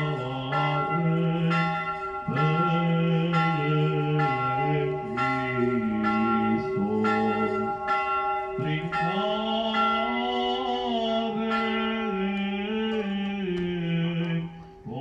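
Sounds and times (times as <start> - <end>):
low voice chanting: 0.0 - 8.0, 8.6 - 15.0
church bell ringing: 0.0 - 15.0.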